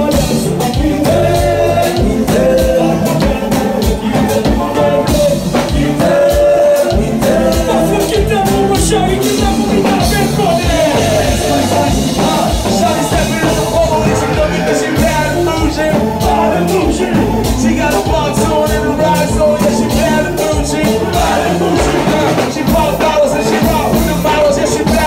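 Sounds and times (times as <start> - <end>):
live band music: 0.0 - 25.0
person singing: 0.0 - 25.0
steady drum beat: 0.0 - 25.0.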